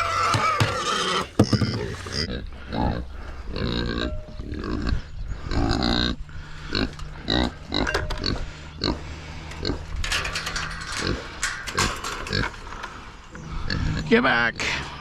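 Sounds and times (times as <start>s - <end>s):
pigs grunting: 0.0s - 10.0s, 10.8s - 15.0s.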